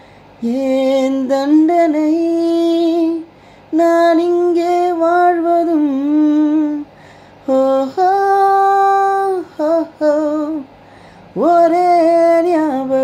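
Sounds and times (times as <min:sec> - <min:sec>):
woman singing slow song: 0:00.3 - 0:13.0.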